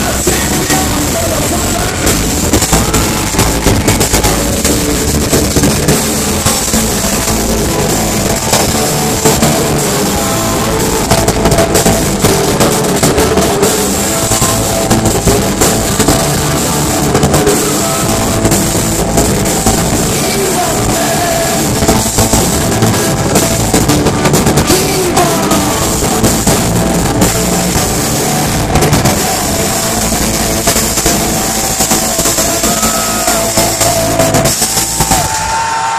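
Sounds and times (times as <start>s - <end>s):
man singing: 0.0s - 5.1s, 6.6s - 34.5s
drum kit beat: 0.0s - 35.9s
electric guitars: 0.0s - 35.9s.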